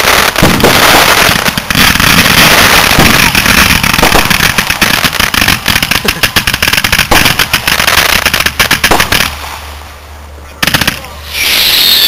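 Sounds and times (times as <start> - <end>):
fireworks crackling and bursting: 0.0 - 12.0.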